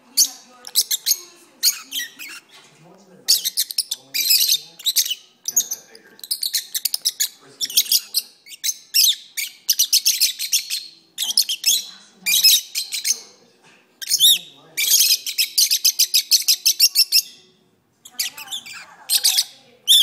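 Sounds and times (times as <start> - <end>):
lovebirds chirping and chattering: 0.0 - 20.0.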